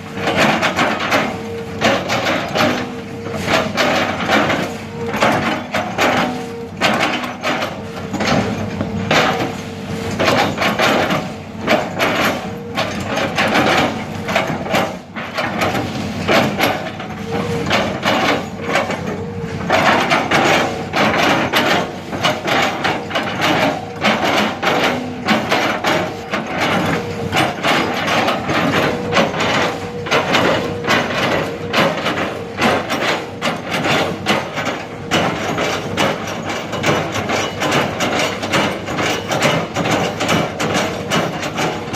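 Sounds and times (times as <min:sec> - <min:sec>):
excavator clattering: 0:00.0 - 0:41.9.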